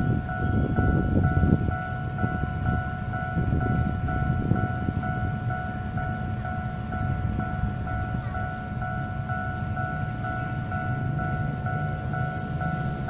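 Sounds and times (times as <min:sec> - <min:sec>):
level crossing alarm beeps: 0:00.0 - 0:13.0.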